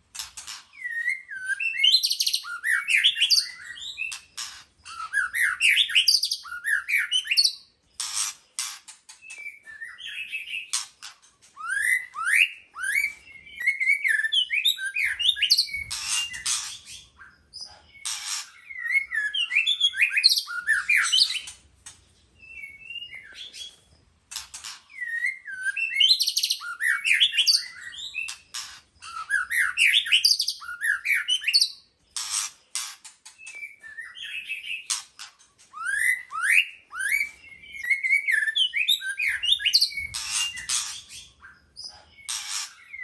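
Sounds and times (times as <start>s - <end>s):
harsh rasping bird calls: 0.0s - 43.0s
bird singing whistled notes: 0.7s - 4.2s, 4.8s - 7.7s, 9.2s - 10.8s, 11.5s - 21.5s, 22.4s - 23.8s, 24.9s - 31.9s, 33.3s - 35.0s, 35.7s - 43.0s.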